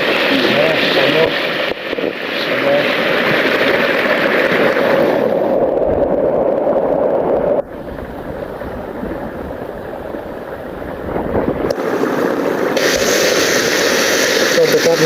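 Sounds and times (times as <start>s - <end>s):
floodwater rushing: 0.0s - 6.6s, 7.3s - 15.0s.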